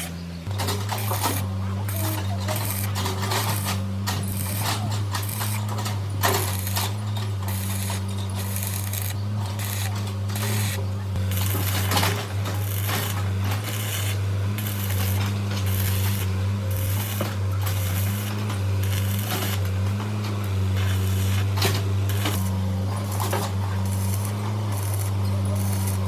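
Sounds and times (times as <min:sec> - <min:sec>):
workshop machine humming: 0:00.0 - 0:26.0.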